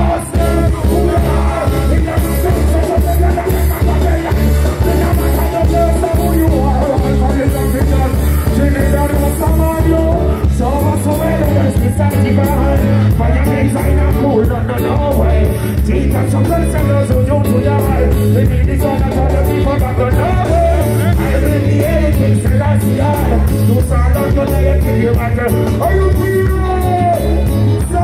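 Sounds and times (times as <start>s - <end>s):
live reggae band playing: 0.0s - 28.0s
man singing: 0.0s - 28.0s.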